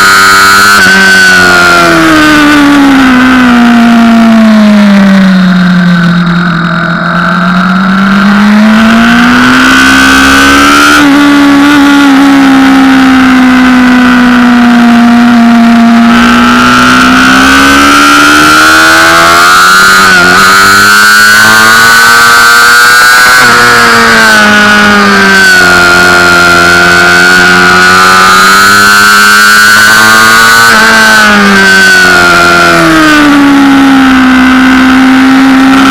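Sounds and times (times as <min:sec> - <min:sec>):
motorcycle engine at high revs: 0:00.0 - 0:35.9.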